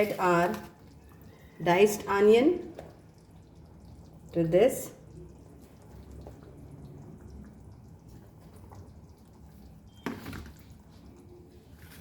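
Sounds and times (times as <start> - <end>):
faint kitchen sounds: 0.0 - 12.0.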